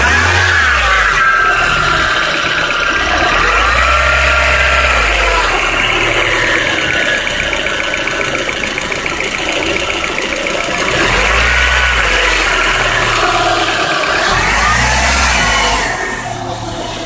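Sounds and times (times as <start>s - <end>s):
car engine idling: 0.0s - 17.0s
deep drone: 0.0s - 17.0s
rapid even ticking: 1.5s - 15.8s.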